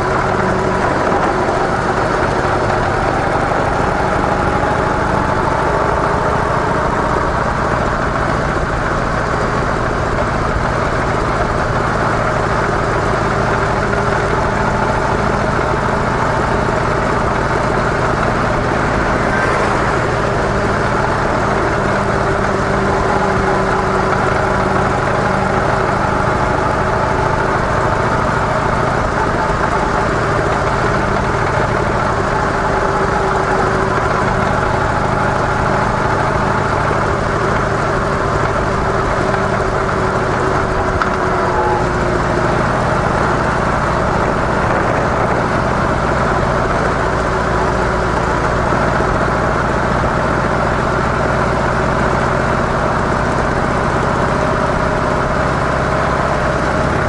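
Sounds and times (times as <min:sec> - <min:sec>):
constant rushing noise: 0:00.0 - 0:57.0
motorcycle engine running: 0:00.0 - 0:57.0.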